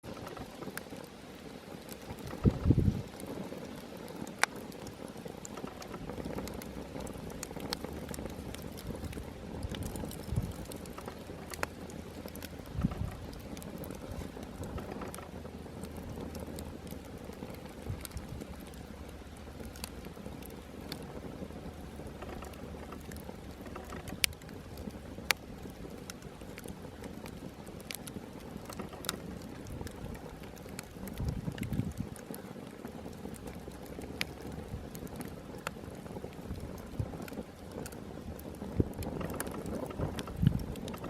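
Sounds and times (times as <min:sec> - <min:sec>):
campfire crackling: 0:00.0 - 0:41.0
sharp pops of fire: 0:00.0 - 0:41.0.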